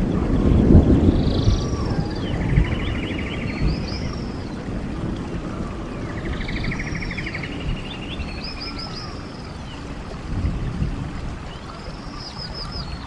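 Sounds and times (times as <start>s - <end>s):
songbirds singing: 0.0s - 13.0s
stream water rushing: 0.0s - 13.0s.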